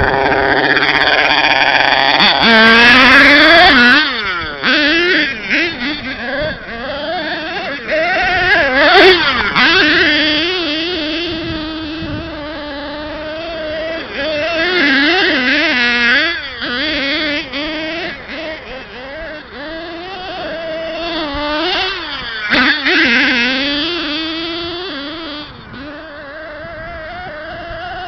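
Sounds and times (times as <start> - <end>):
engine revving: 0.0 - 28.0
small engine buzzing: 0.0 - 28.0.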